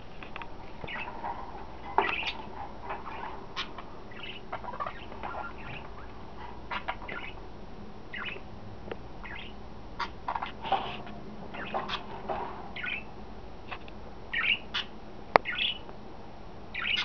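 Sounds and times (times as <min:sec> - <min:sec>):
budgerigars chirping and squawking: 0:00.8 - 0:08.5, 0:09.2 - 0:15.8, 0:16.7 - 0:17.0.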